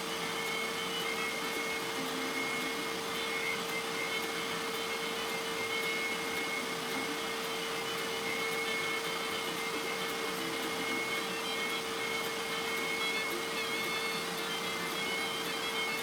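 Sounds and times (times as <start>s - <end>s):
thin steady whine: 0.0s - 16.0s
woodworking machine motor hum: 0.0s - 16.0s.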